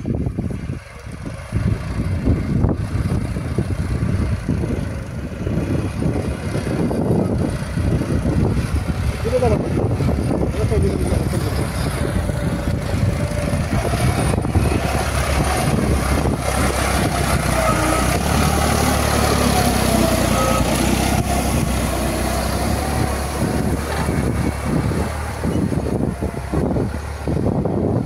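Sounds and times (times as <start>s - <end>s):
diesel tractor engine running: 0.0s - 28.0s.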